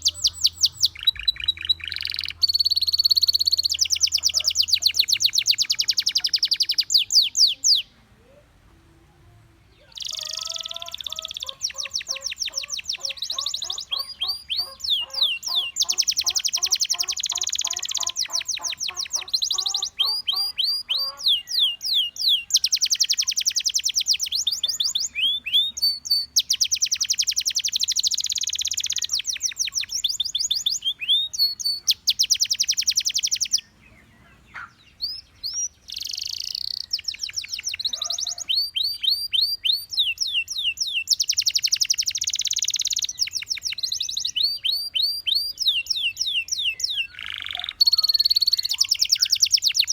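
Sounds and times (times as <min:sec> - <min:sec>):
canary singing: 0:00.0 - 0:08.5, 0:09.7 - 0:49.9.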